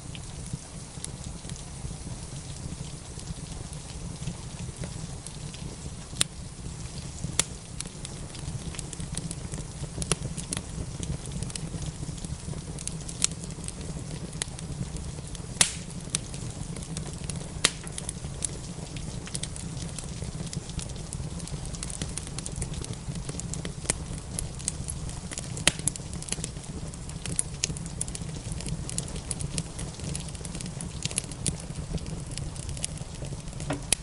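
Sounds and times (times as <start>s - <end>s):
faint rain hiss: 0.0s - 34.0s
wood fire crackling: 0.0s - 34.0s.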